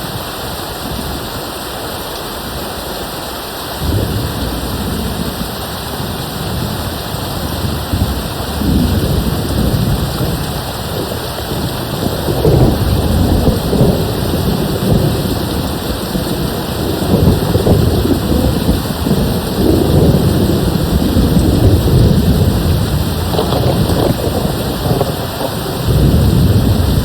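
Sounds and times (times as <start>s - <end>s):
steady rain: 0.0s - 27.0s
distant thunder rumble: 3.8s - 27.0s.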